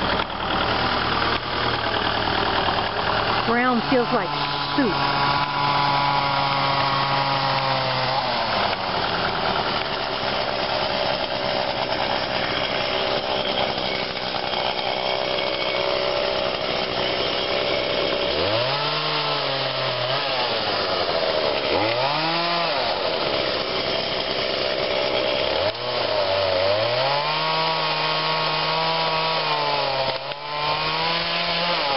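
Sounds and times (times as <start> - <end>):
chainsaw cutting: 0.0 - 31.9.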